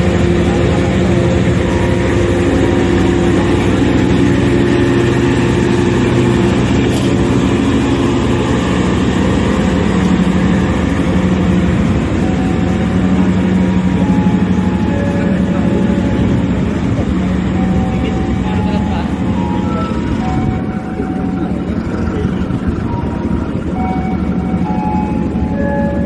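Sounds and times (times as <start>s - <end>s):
locomotive engine drone: 0.0s - 26.0s
train rumble: 0.0s - 26.0s.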